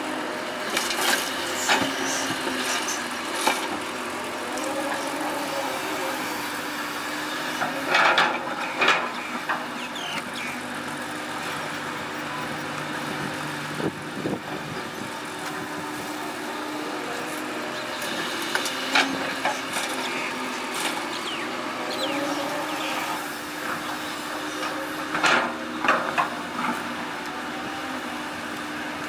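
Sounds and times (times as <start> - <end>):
heavy construction machinery running: 0.0 - 29.0.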